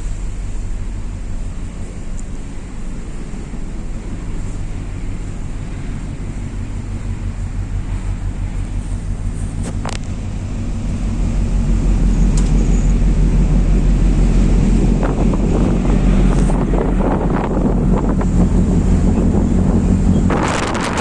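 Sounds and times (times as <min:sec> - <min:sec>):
sea noise: 0:00.0 - 0:21.0
ship engine hum: 0:00.0 - 0:21.0
wind: 0:00.0 - 0:21.0.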